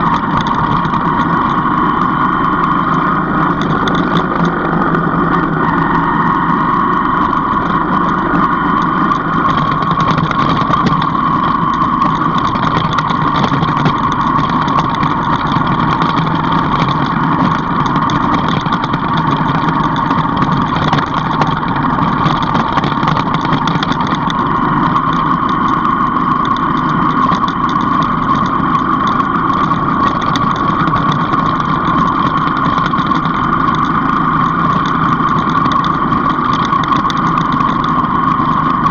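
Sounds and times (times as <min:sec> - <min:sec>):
road and wind noise: 0:00.0 - 0:38.9
vehicle engine running: 0:00.0 - 0:38.9.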